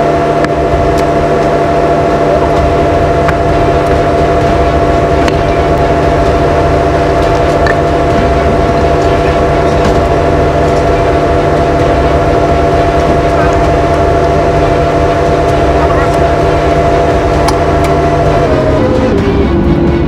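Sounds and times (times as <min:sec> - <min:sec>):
excavator engine and hydraulics droning: 0:00.0 - 0:20.0.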